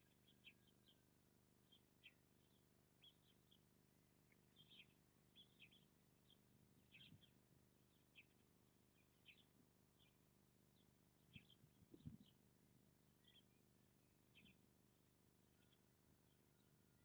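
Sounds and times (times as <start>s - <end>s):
small birds chirping: 0.0s - 1.0s, 1.6s - 12.4s, 13.2s - 15.8s.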